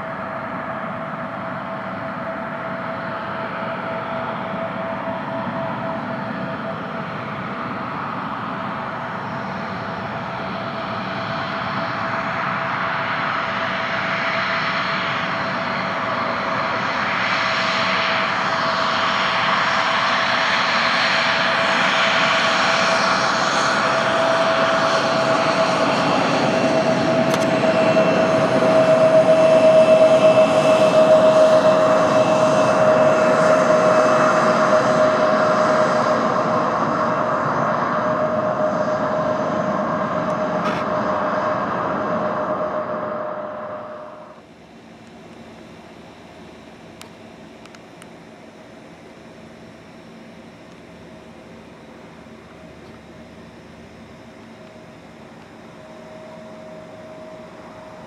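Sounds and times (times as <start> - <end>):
jet engines whining and roaring: 0.0 - 58.0.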